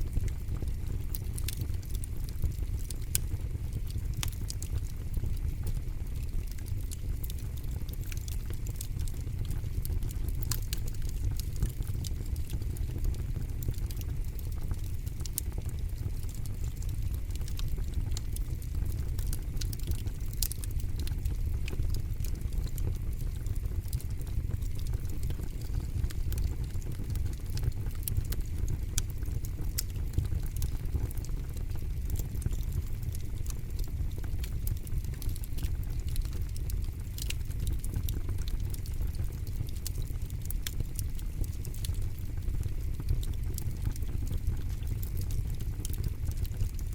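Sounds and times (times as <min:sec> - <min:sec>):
campfire flames rumbling: 0:00.0 - 0:46.9
fire crackles and pops: 0:00.0 - 0:46.9.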